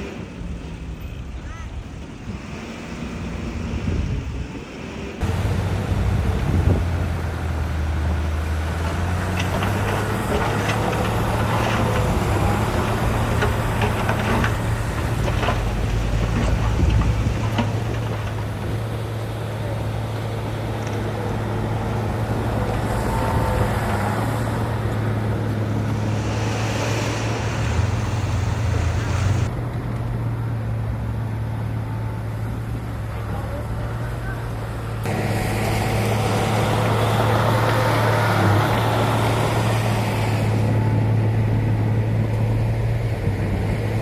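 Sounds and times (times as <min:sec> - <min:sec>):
heavy diesel machinery droning: 0:05.2 - 0:29.6, 0:31.1 - 0:44.0.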